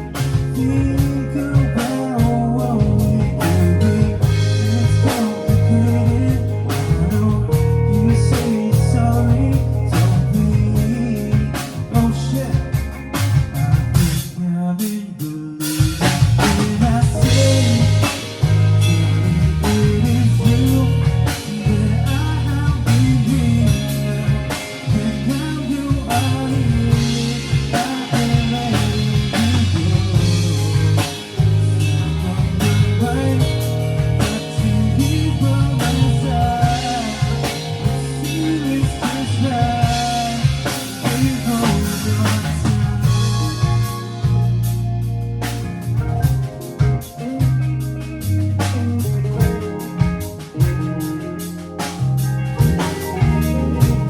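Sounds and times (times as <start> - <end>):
rock band playing instrumental: 0.0 - 54.0.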